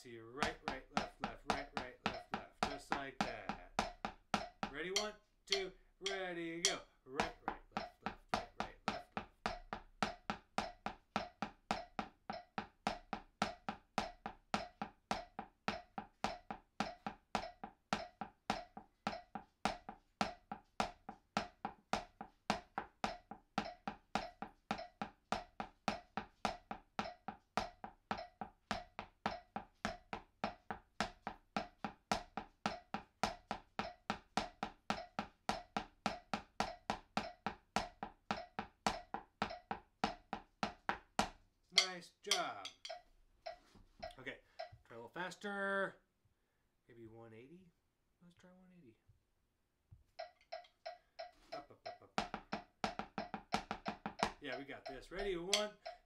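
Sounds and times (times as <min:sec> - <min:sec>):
drumsticks tapping practice pad: 0:00.4 - 0:44.8, 0:50.2 - 0:56.0.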